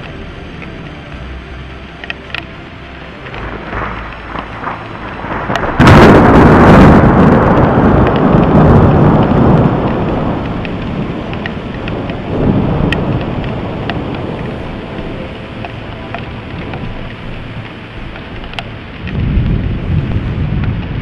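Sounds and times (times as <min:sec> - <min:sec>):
thunder crack and rumble: 0:03.2 - 0:21.0.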